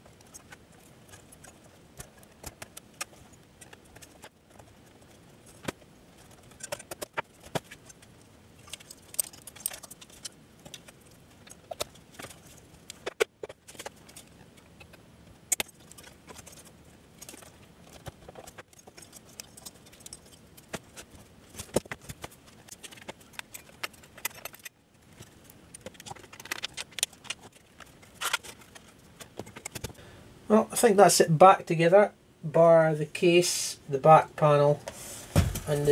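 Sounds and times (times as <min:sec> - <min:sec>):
plastic and metal parts clicking: 0:00.0 - 0:30.0.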